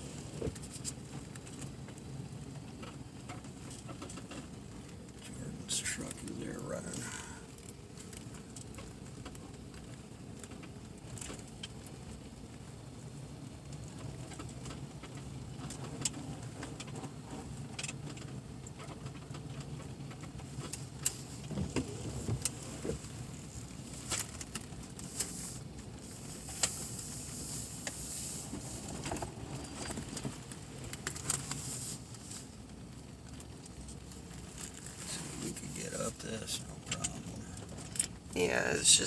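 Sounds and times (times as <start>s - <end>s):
sharp clicks and crackles: 0.4s - 12.7s, 13.6s - 28.0s, 28.8s - 39.0s.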